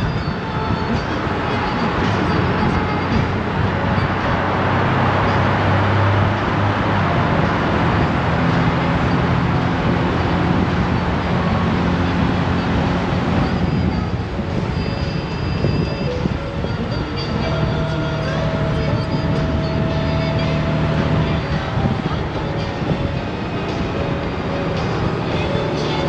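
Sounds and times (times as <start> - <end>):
road noise: 0.0 - 26.0
wind noise: 0.0 - 26.0.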